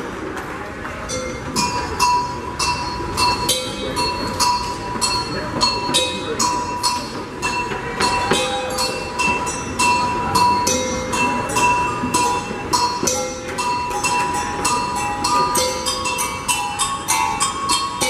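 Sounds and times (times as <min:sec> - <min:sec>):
jingling percussion: 0:01.1 - 0:18.0.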